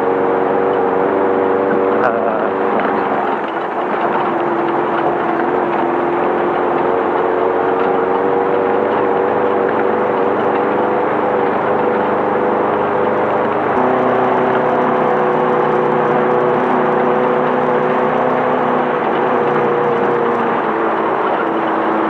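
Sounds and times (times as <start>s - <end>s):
car engine running at speed: 0.0s - 22.0s
road and wind noise: 0.0s - 22.0s.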